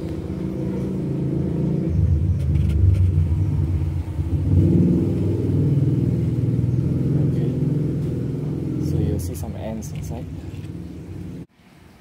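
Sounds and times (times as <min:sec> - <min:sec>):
low mechanical rumble: 0:00.0 - 0:11.5.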